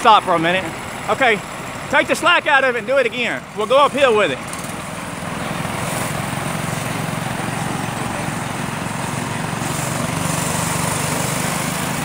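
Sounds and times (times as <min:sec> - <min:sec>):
gas engine running under load: 0:00.0 - 0:12.0.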